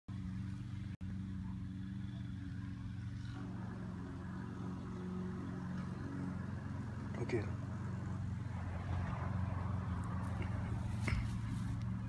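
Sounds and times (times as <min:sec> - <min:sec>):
low engine hum: 0:00.1 - 0:12.0.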